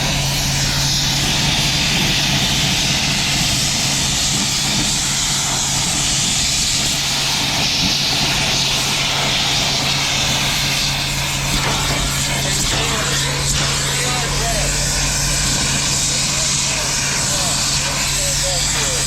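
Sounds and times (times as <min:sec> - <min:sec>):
engine running loudly: 0:00.0 - 0:19.0.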